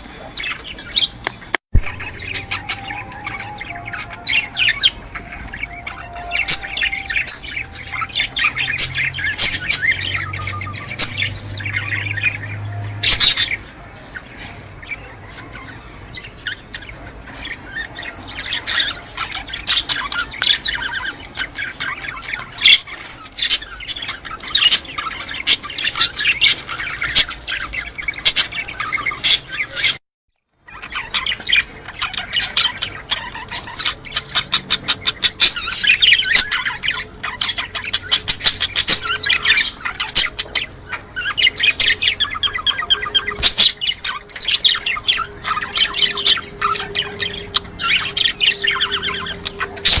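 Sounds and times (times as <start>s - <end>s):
cage birds chirping: 0.0s - 50.0s.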